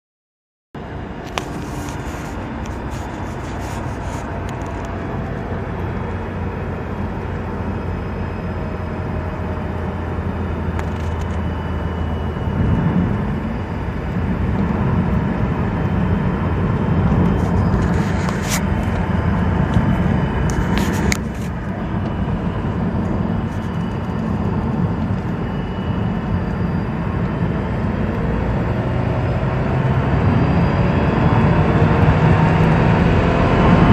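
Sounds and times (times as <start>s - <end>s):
car engine running: 0.8s - 33.9s
faint whine: 0.8s - 33.9s
road noise: 0.8s - 33.9s.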